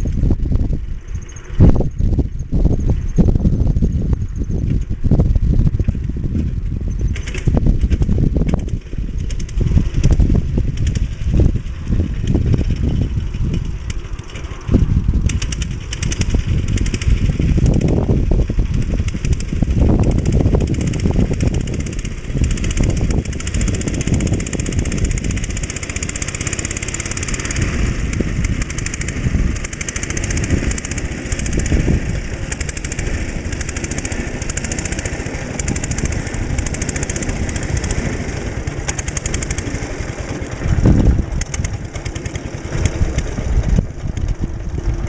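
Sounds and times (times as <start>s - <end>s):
single-cylinder engine running steadily: 0.0s - 45.0s.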